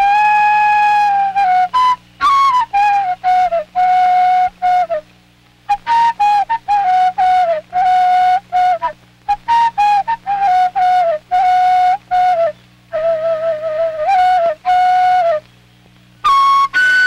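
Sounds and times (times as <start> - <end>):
faint steady hum: 0.0 - 17.0
solo flute melody: 0.0 - 17.0.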